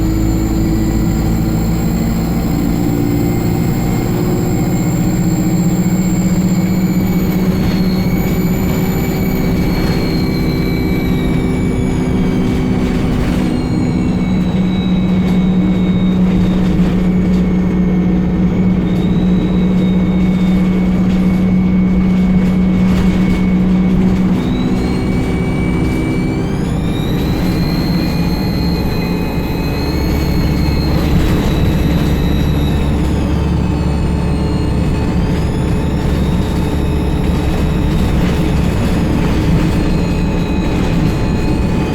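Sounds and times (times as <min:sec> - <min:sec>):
bus engine drone: 0:00.0 - 0:41.9
turbo whine: 0:00.0 - 0:41.9.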